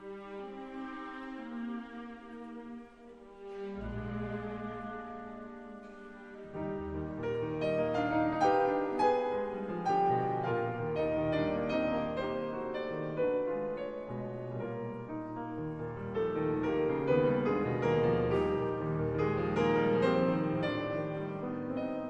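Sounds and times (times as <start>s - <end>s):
gentle piano music: 3.8s - 22.0s.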